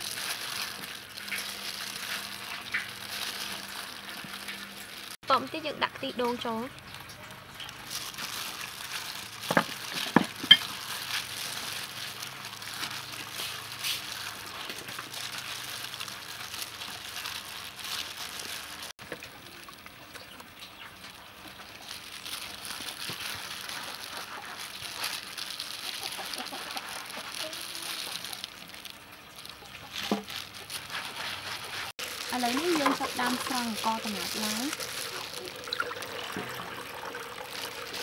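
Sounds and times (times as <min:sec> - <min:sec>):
liquid dripping and splashing: 0:00.0 - 0:05.2, 0:06.0 - 0:38.0
wet squelching and sloshing: 0:00.0 - 0:05.2, 0:06.6 - 0:38.0.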